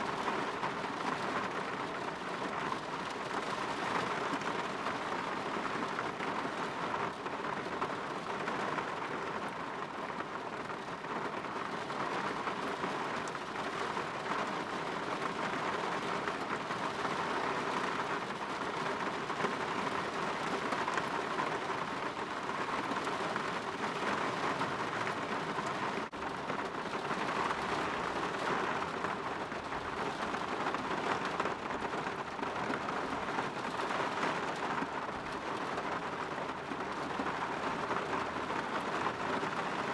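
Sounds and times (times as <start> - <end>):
rain falling on a window: 0.0 - 39.9.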